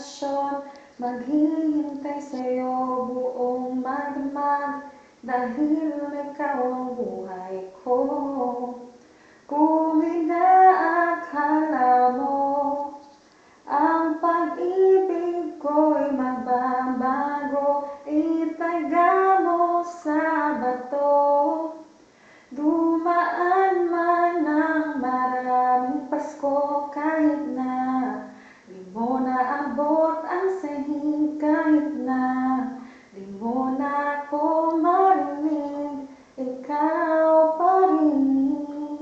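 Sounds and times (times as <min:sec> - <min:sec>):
woman singing unaccompanied: 0:00.0 - 0:39.0.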